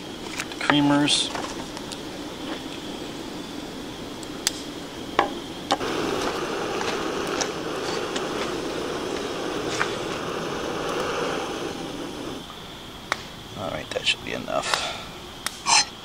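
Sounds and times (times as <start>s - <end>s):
camping stove burning: 0.0s - 16.0s.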